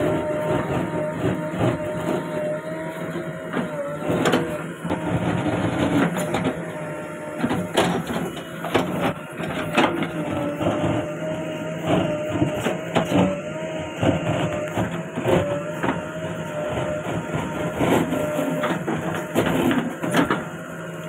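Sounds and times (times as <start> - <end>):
diesel engine under load: 0.0 - 21.0
steady whine: 0.0 - 21.0.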